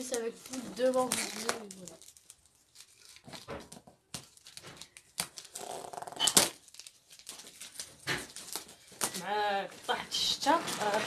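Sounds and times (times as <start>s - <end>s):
tape tearing: 0.0s - 11.0s.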